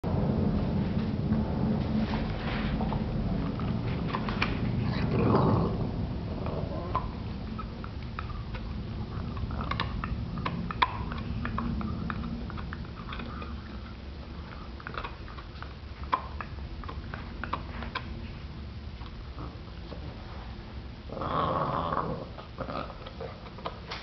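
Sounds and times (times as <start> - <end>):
dog gnawing bone: 2.1 - 20.2, 21.1 - 24.0.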